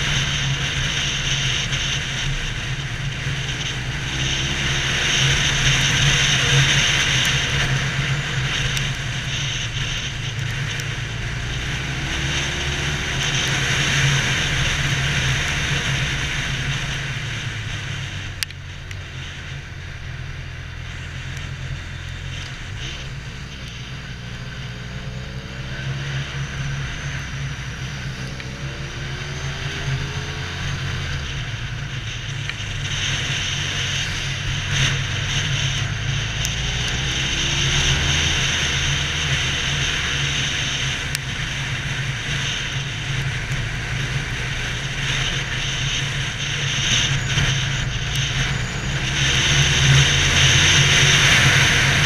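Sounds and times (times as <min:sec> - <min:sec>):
motorcycle engine cruising: 0:00.0 - 0:52.0
wind and road noise: 0:00.0 - 0:52.0.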